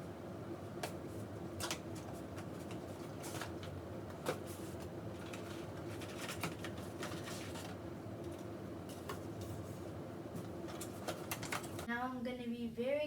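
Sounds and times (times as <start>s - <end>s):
faint steady hum: 0.0s - 13.0s
cardboard and plastic rustling: 0.8s - 11.9s.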